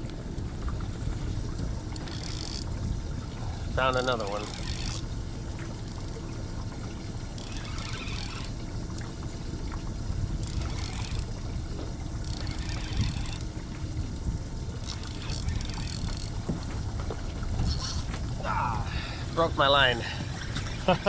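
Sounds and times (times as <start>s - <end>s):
water sloshing against boat: 0.0s - 21.0s.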